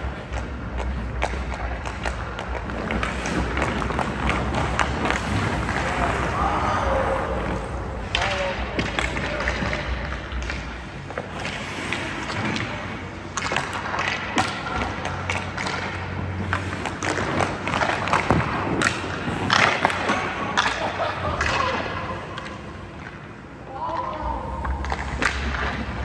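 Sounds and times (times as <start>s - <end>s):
pucks sticks and pads knocking: 0.0s - 6.2s, 8.0s - 23.3s, 24.1s - 26.0s
skate blades scraping ice: 0.0s - 8.4s, 9.0s - 14.4s, 15.1s - 23.5s.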